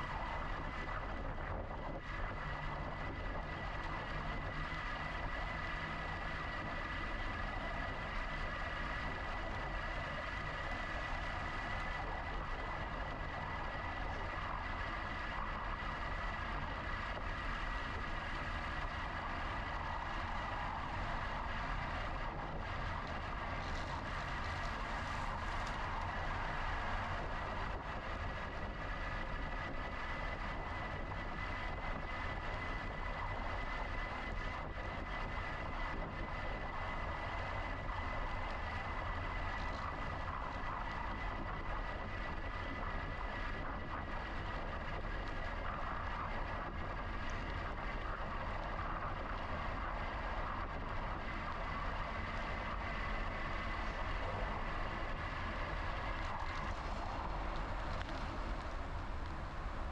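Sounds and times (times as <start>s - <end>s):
faint high whine: 0.0s - 59.9s
wind and rolling noise: 0.0s - 59.9s.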